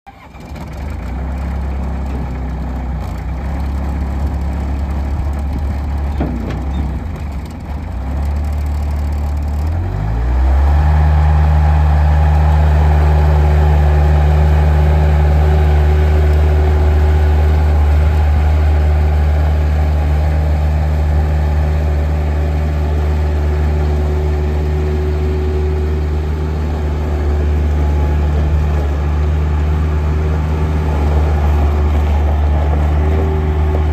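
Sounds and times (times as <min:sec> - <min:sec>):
diesel engine idling and revving: 0:00.1 - 0:33.9.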